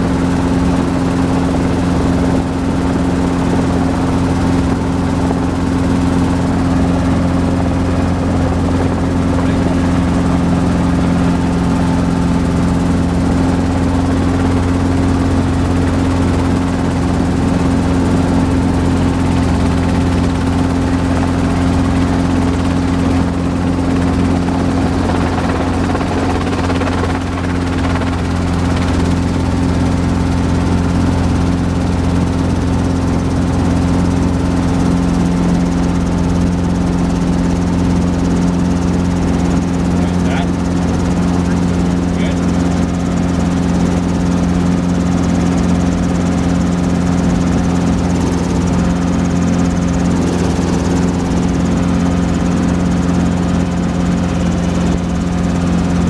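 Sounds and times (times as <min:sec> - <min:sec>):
helicopter engine and rotors droning: 0:00.0 - 0:56.0.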